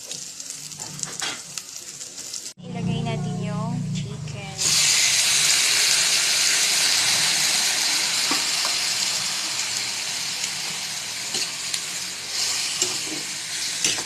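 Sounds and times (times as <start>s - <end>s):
chicken sizzling in hot oil: 0.0s - 2.6s, 4.6s - 14.0s.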